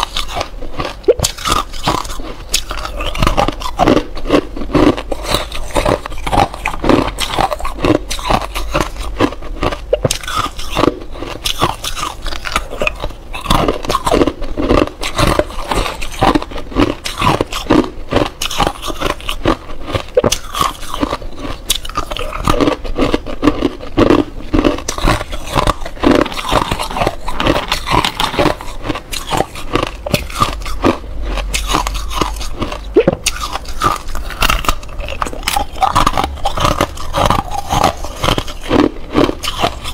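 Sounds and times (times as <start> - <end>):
chewing ice cubes: 0.0 - 39.9.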